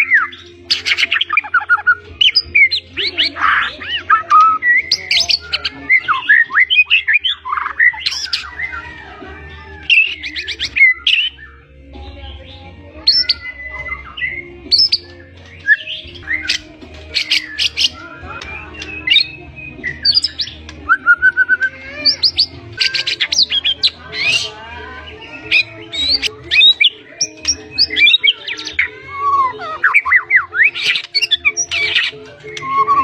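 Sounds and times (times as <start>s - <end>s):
bird singing whistles and trills: 0.0s - 8.9s, 9.9s - 24.6s, 25.2s - 33.0s.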